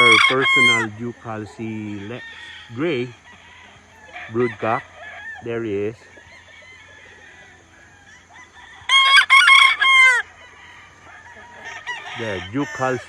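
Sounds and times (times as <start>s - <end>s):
rooster crowing: 0.0s - 0.9s, 1.7s - 13.0s.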